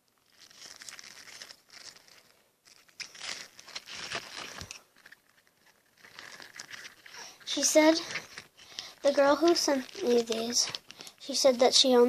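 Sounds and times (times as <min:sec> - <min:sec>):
balloon skin crinkling and tearing: 0:00.0 - 0:11.4.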